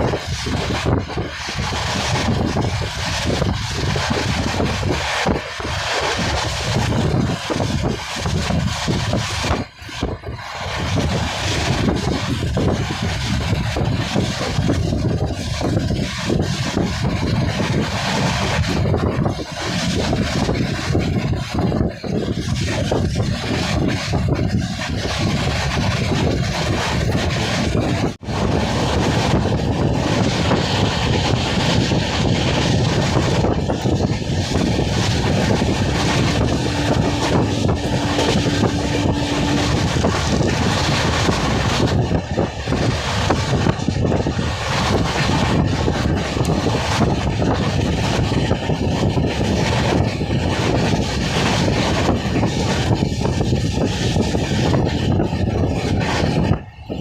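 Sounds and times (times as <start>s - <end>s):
train running rumble: 0.0s - 57.0s
wind buffeting microphone: 0.0s - 57.0s.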